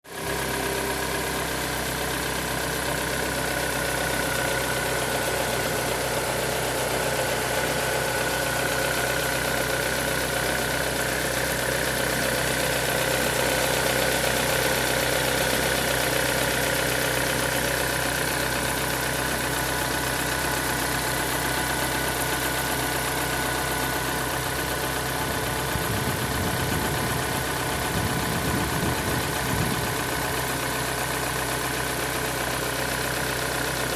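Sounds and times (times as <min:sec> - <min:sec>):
car engine idling with knock: 0:00.3 - 0:33.9.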